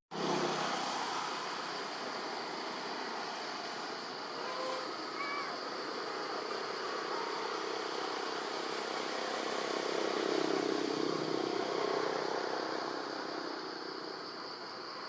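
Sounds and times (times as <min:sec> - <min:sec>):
motor vehicle engine passing: 0:00.1 - 0:05.0, 0:06.0 - 0:14.4.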